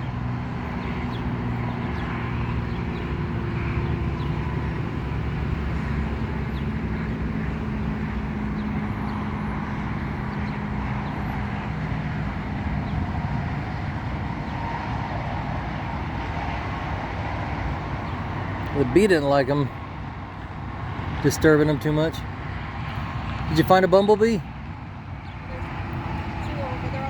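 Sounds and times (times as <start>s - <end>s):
road traffic noise: 0.0s - 27.0s
vehicle engines humming: 0.0s - 27.0s.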